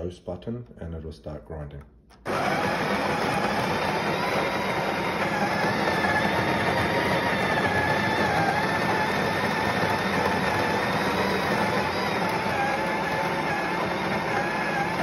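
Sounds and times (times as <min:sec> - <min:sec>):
coffee grinder grinding beans: 0:02.3 - 0:15.0.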